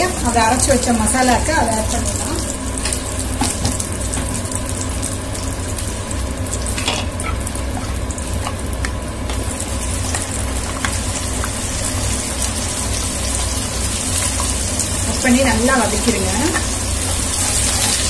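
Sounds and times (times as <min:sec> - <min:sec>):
butter sizzling in frying pan: 0:00.0 - 0:18.0
steady low hum: 0:00.0 - 0:18.0.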